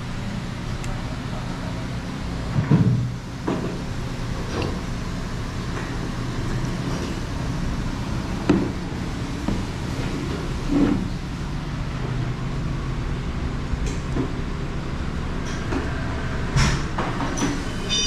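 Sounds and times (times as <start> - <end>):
street traffic hum: 0.0 - 18.0.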